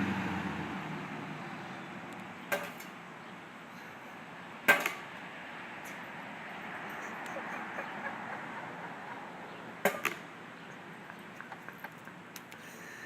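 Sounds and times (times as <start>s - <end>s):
faint background noise: 0.0s - 13.0s.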